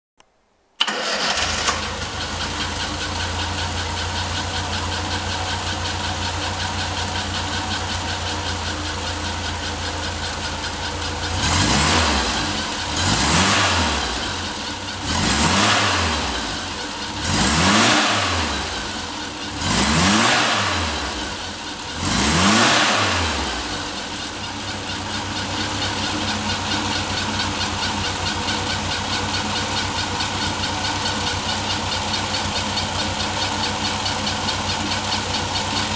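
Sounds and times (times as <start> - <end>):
car engine idling and revving: 0.8 - 35.9.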